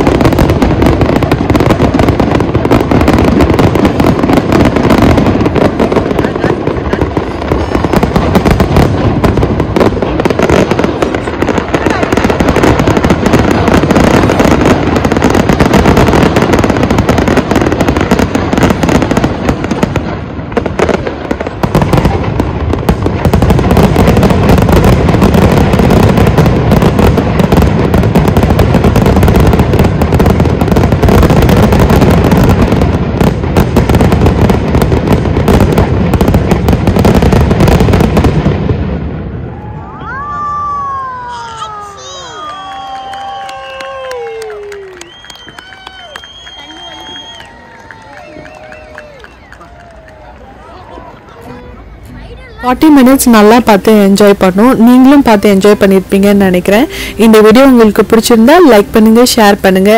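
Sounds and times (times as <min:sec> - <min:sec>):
firework bangs and crackles: 0:00.0 - 0:59.9.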